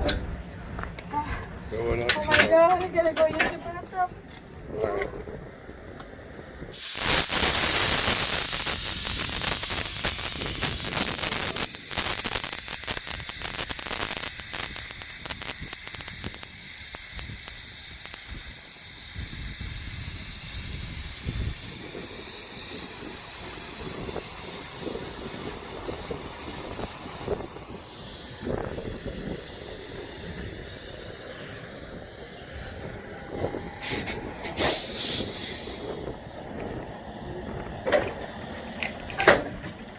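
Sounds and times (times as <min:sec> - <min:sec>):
air brake hissing: 0:06.7 - 0:38.8.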